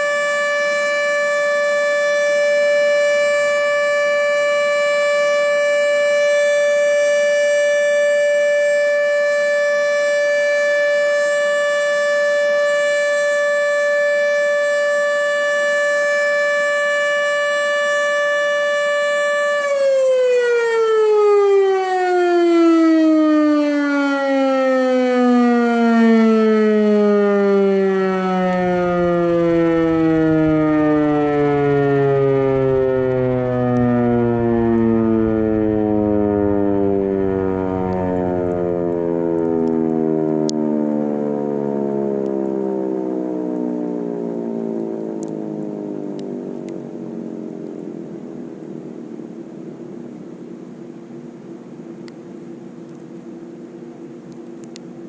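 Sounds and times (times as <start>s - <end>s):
warning siren: 0.0s - 55.0s.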